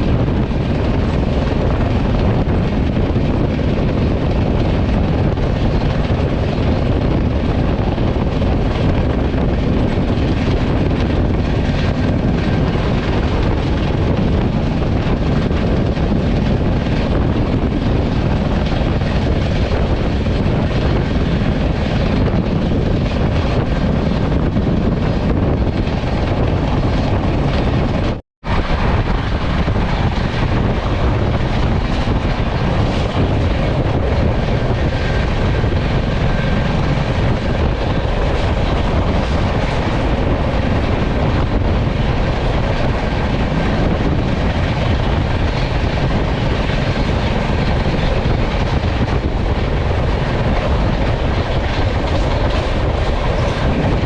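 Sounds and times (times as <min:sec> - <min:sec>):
train running at high speed: 0:00.0 - 0:54.0.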